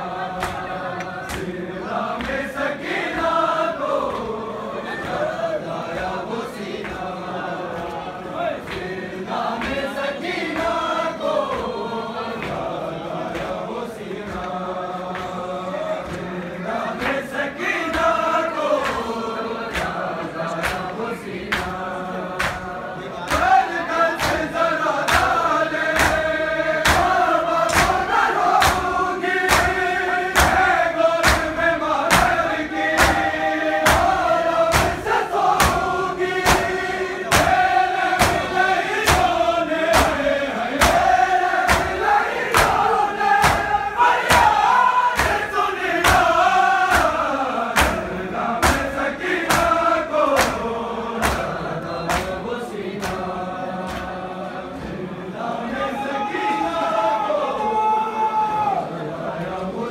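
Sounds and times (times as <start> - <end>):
rhythmic chest-beating slaps: 0.0 - 55.8
lead reciter: 0.0 - 59.9
men chanting in unison: 0.0 - 59.9.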